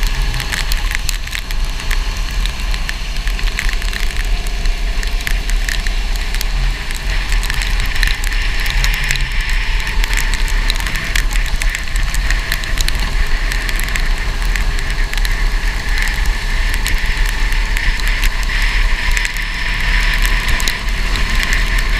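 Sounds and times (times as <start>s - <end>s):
crackles and ticks: 0.0s - 21.9s
go-kart engine running: 0.0s - 21.9s.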